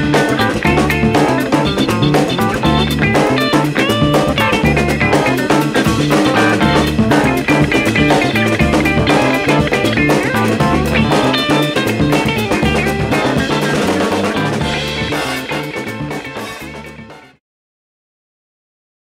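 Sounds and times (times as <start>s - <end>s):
rock music with electric guitar: 0.0s - 17.4s.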